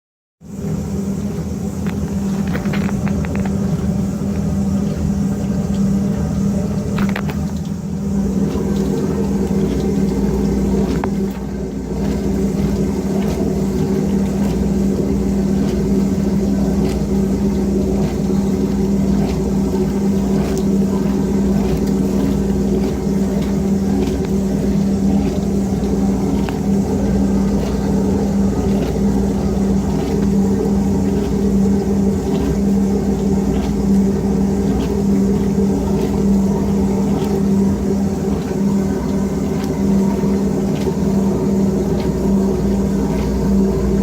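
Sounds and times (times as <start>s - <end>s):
washing machine motor humming: 0.4s - 44.0s.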